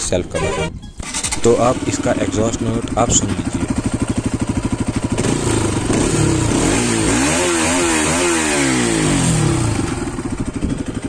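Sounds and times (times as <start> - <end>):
motorcycle engine revving: 0.5 - 11.0.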